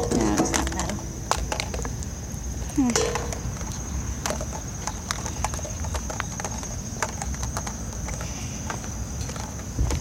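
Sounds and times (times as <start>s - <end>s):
footsteps on pavement: 0.0s - 10.0s.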